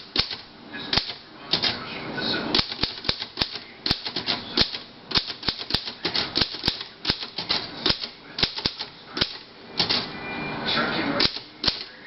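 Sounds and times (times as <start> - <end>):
typewriter keystroke clacks: 0.1 - 1.8, 2.5 - 10.1, 11.2 - 11.9.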